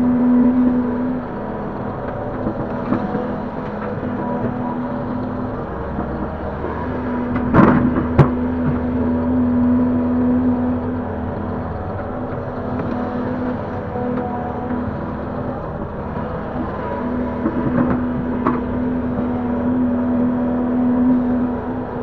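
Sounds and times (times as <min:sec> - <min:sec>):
excavator engine humming: 0:00.0 - 0:22.0.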